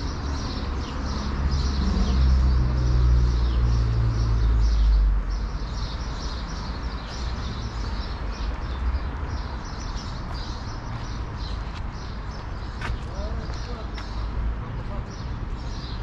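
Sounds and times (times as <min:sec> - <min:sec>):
city traffic hum: 0:00.0 - 0:16.0
small birds chirping: 0:00.0 - 0:16.0.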